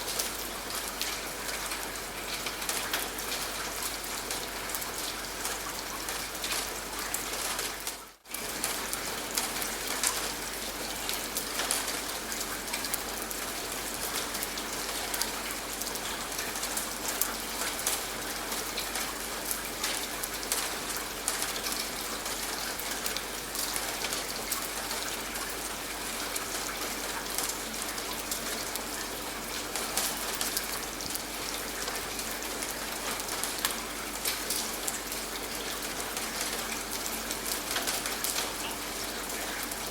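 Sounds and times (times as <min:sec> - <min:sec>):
rain drops ticking on surface: 0:00.0 - 0:39.9.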